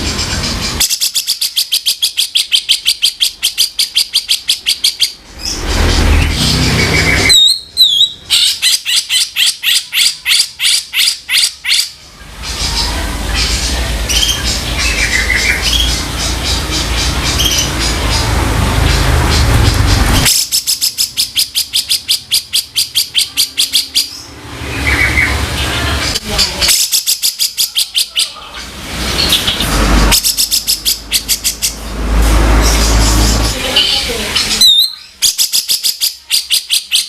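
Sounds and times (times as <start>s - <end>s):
bulbul harsh stuttering calls: 0.0s - 37.0s.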